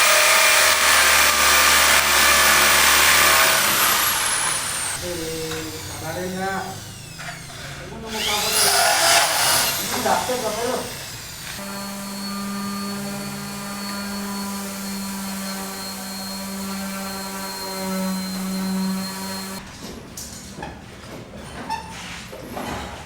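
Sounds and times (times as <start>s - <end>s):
electric motor running: 0.0s - 19.6s.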